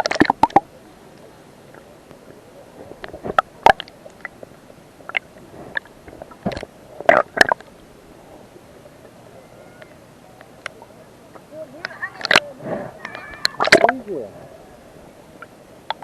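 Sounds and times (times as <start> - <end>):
low steady hiss: 0.0 - 16.0
muffled water splashes: 0.0 - 16.0.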